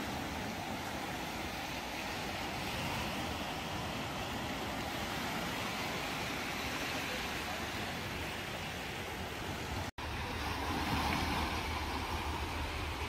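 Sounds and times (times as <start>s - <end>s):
waves breaking on rocky shore: 0.0s - 13.0s.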